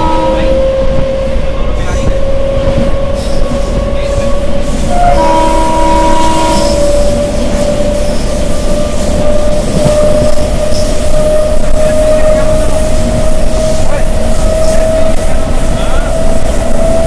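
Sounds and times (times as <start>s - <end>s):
moving train running noise: 0.0s - 17.0s
train horn chord: 0.0s - 17.0s.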